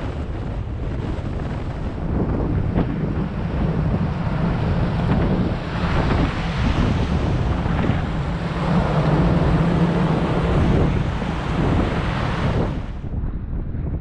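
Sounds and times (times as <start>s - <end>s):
ship hull rumbling through ice: 0.0s - 13.2s
wind buffeting the microphone: 0.0s - 14.0s.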